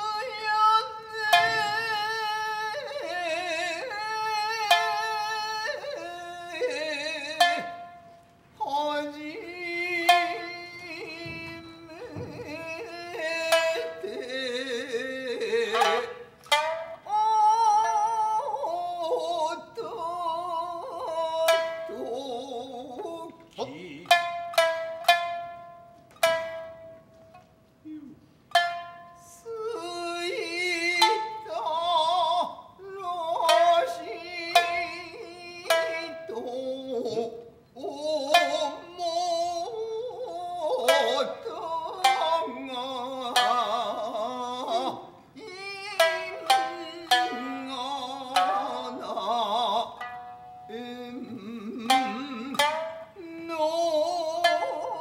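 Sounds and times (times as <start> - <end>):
person singing with vibrato: 0.0 - 55.0
plucked shamisen notes: 0.0 - 55.0.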